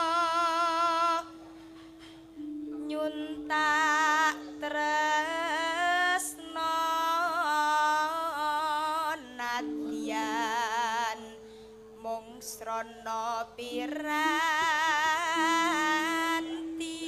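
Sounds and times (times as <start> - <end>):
woman singing into a microphone: 0.0 - 1.4, 2.4 - 17.0
held accompanying note: 0.0 - 17.0.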